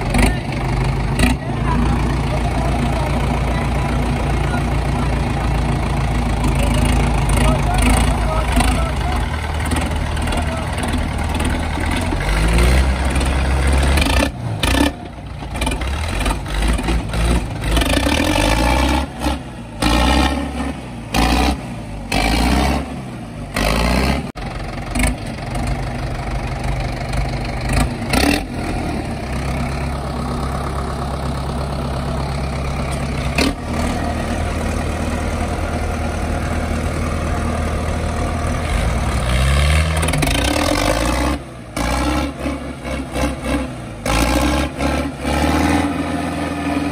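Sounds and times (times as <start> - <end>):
diesel tractor engine revving: 0.0 - 46.9.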